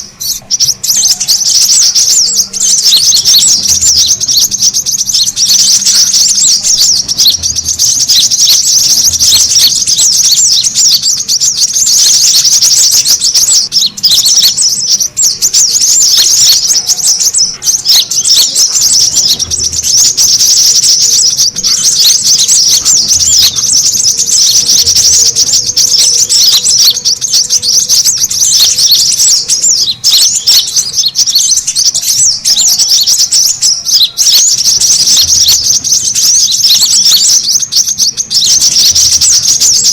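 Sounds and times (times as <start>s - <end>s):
birds chattering high chirps: 0.0s - 39.9s.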